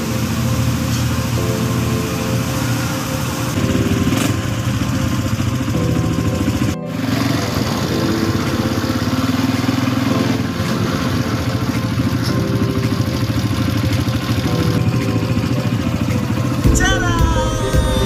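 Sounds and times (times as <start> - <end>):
quad bike engine running: 2.4 - 17.7.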